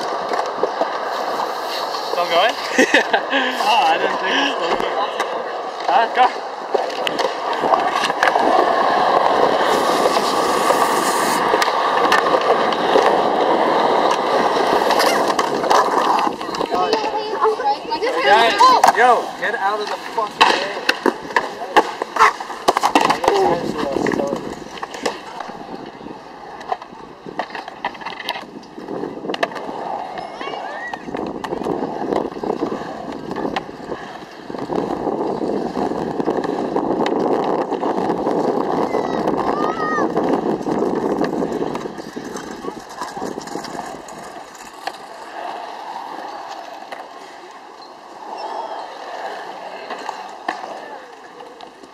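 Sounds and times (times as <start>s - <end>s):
skateboard clacks: 0.0s - 51.9s
skateboard wheels rolling on concrete: 0.0s - 51.9s.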